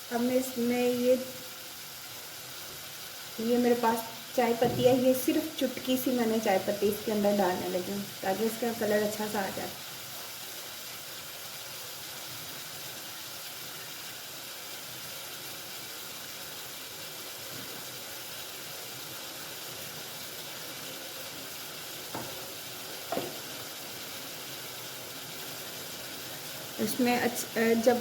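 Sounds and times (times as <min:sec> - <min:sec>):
water boiling with hiss: 0:00.0 - 0:28.0.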